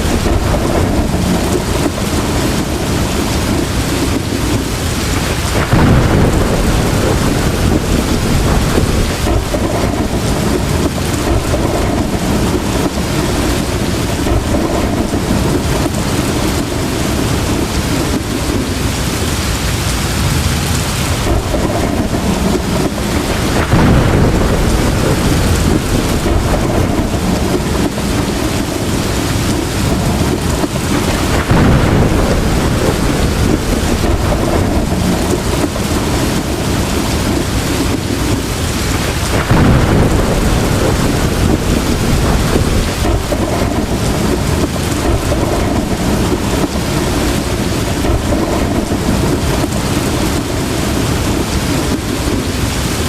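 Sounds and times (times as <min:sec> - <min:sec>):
heavy rain falling: 0:00.0 - 0:53.0
rumbling thunder: 0:00.0 - 0:53.0.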